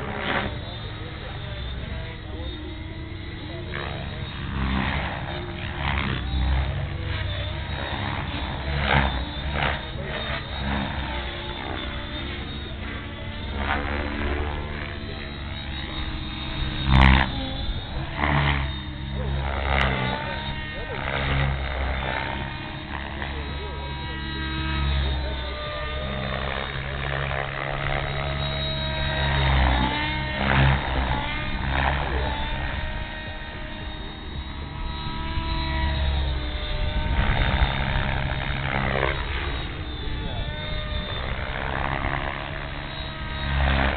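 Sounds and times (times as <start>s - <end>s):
faint motor whine: 0.0s - 43.9s
helicopter rotor blades whooshing: 0.0s - 43.9s.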